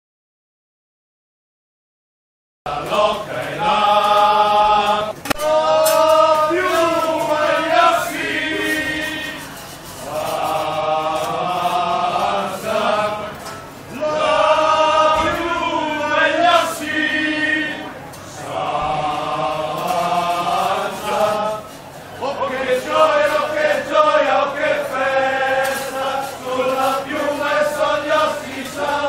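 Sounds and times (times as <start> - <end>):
men chanting: 2.7 - 29.0.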